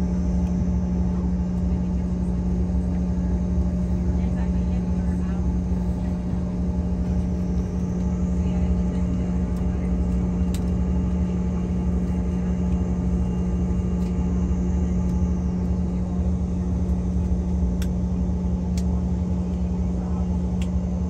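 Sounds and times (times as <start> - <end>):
airliner cabin drone: 0.0 - 21.0.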